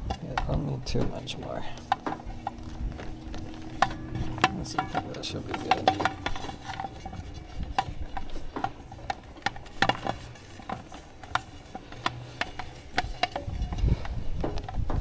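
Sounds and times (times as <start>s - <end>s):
hose reel clicks and knocks: 0.0s - 15.0s
ratchet-like clatter: 0.0s - 15.0s.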